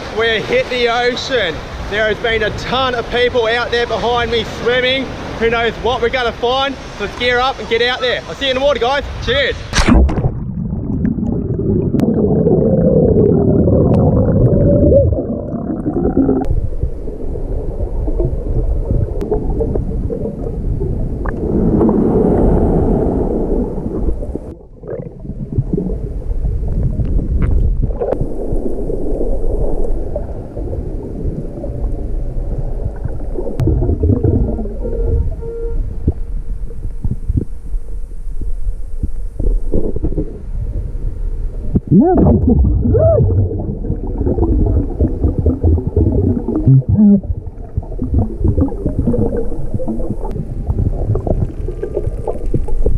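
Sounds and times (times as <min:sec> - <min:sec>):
muffled underwater surf bubbling: 0:09.6 - 0:52.9.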